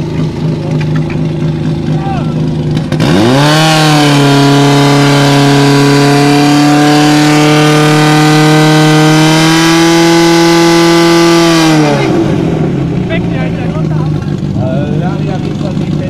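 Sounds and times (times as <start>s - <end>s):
pump engine droning: 0.0s - 16.0s.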